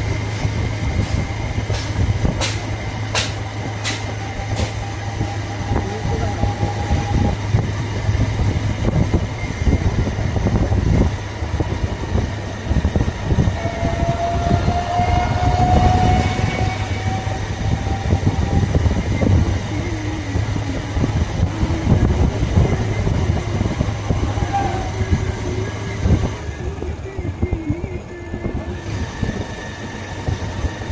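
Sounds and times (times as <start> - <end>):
long rising tone: 0.0 - 30.9
wind on microphone: 0.0 - 30.9.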